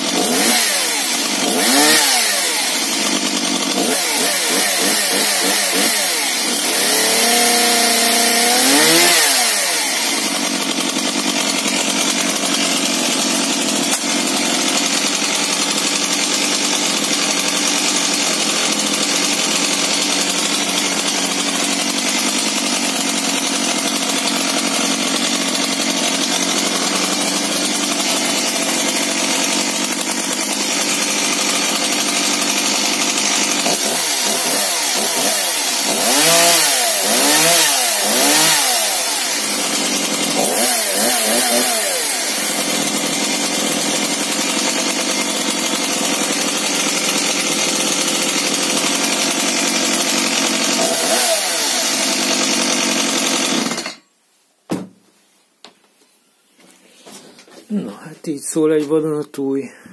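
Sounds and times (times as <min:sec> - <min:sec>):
chainsaw revving: 0:00.0 - 0:54.0
chainsaw idling: 0:00.0 - 0:54.1, 0:57.6 - 0:59.9.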